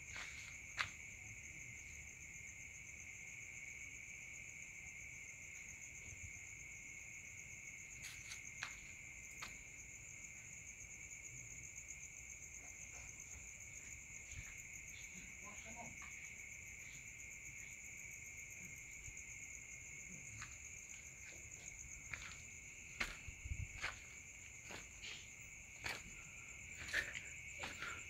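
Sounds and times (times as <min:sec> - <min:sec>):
night insects trilling: 0:00.0 - 0:28.0.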